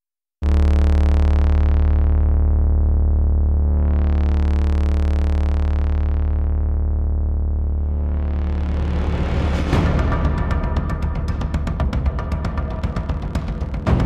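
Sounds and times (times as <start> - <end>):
deep synthesizer drone: 0.4 - 14.0.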